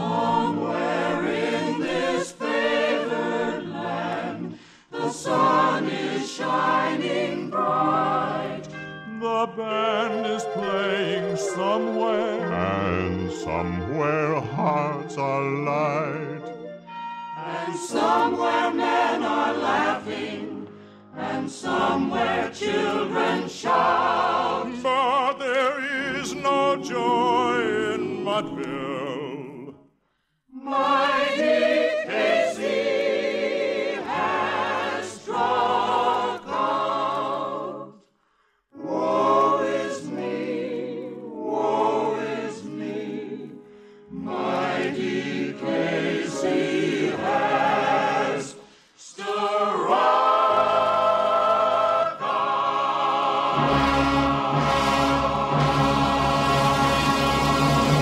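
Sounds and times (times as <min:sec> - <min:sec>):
choir singing with vibrato: 0:00.0 - 0:58.0.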